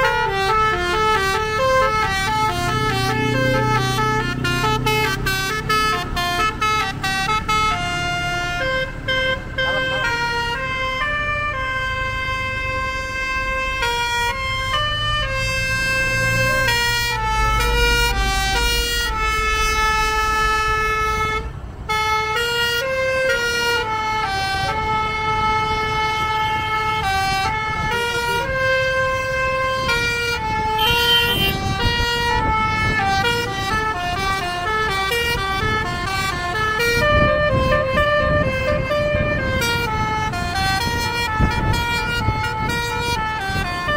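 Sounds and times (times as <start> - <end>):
musical air horn melody: 0.0 - 43.9
vehicle rumble: 0.0 - 43.9.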